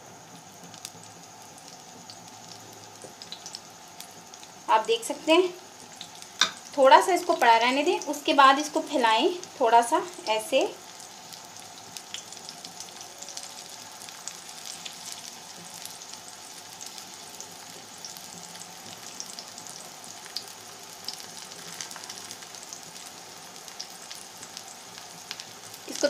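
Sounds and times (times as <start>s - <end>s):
batter sizzling in oil: 0.0s - 26.0s.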